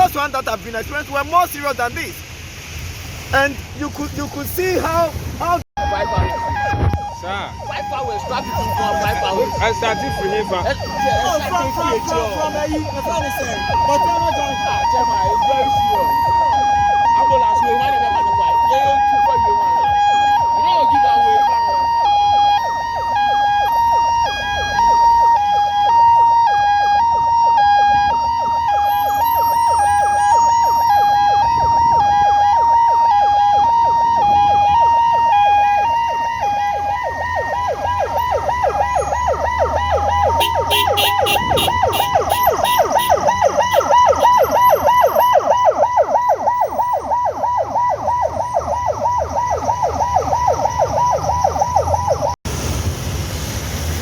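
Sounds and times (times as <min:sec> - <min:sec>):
vehicle engines rumbling: 0:00.0 - 0:54.0
ambulance siren: 0:03.4 - 0:52.4.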